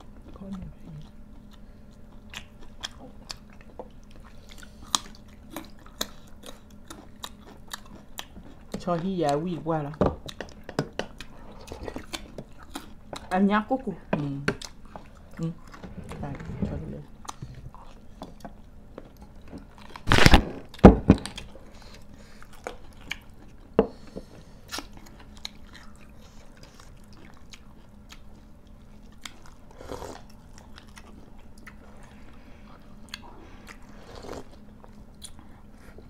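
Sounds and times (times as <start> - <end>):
people chewing and crunching: 0.0 - 16.3, 17.0 - 36.0.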